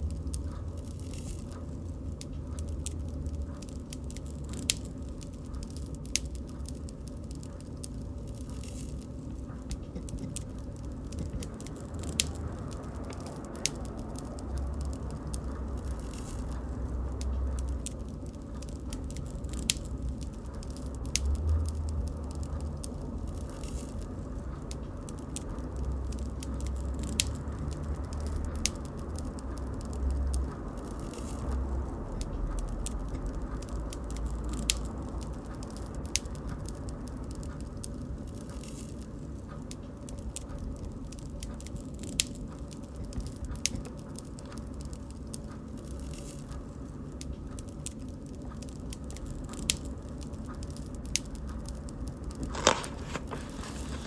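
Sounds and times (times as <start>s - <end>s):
burning wood popping and snapping: 0.0s - 36.4s, 41.2s - 54.0s
low rumble of flames: 0.0s - 54.0s.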